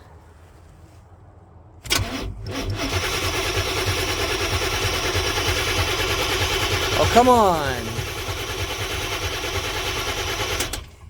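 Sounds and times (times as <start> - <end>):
starter motor cranking engine: 1.9 - 11.0.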